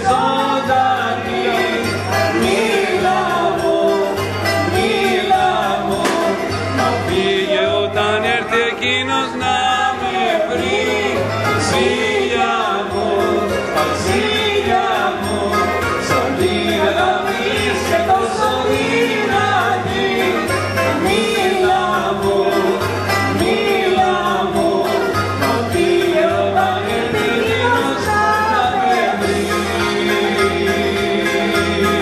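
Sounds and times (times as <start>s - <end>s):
amplified backing music: 0.0s - 32.0s
woman singing into microphone: 0.0s - 32.0s.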